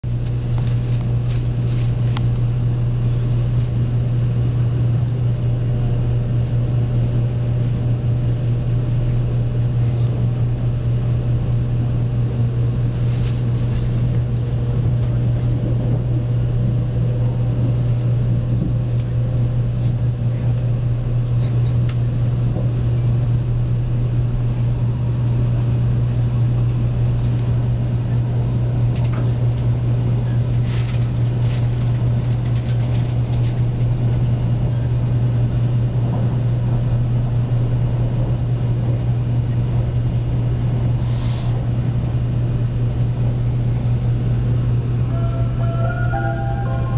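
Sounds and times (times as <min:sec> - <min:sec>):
train running hum: 0:00.0 - 0:46.9.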